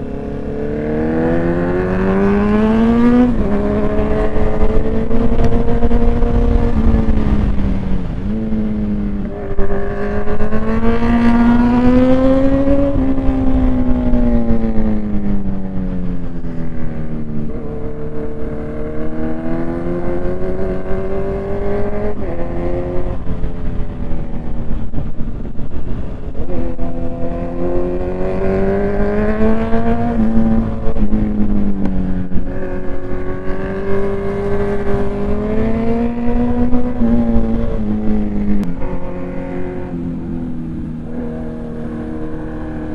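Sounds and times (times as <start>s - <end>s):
motorcycle engine accelerating: 0.0s - 42.9s
wind rumble: 0.0s - 42.9s.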